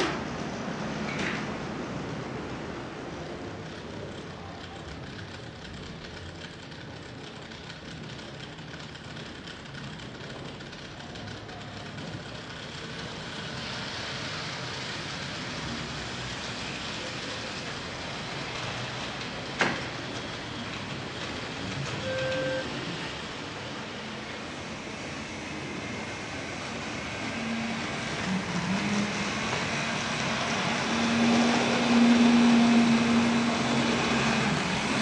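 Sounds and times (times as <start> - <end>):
model train whirring: 2.6 - 35.0.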